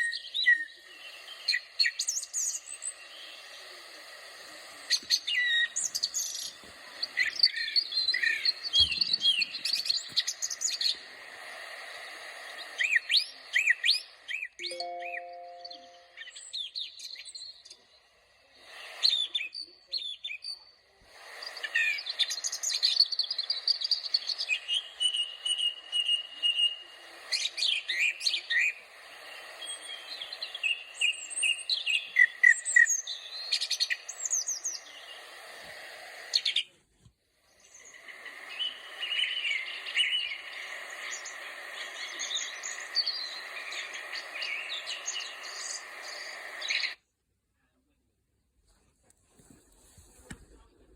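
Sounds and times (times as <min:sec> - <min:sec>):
birds chirping and singing: 0:00.0 - 0:36.7, 0:37.4 - 0:47.0.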